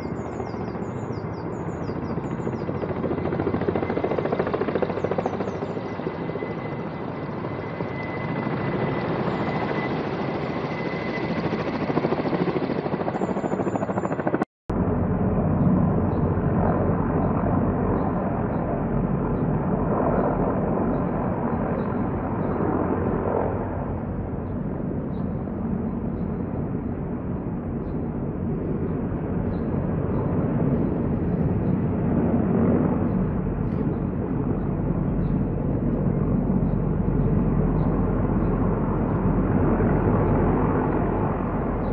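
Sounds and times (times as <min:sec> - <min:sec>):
distant helicopter drone: 0:00.0 - 0:41.9.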